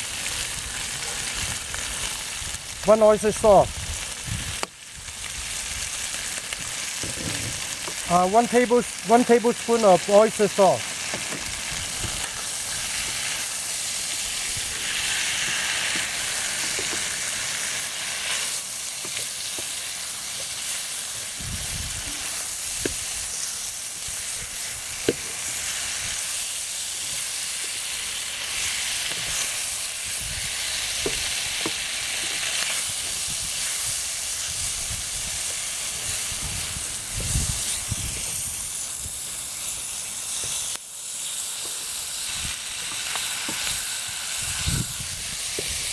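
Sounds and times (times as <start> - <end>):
food sizzling in a hot pan: 0.0 - 45.9.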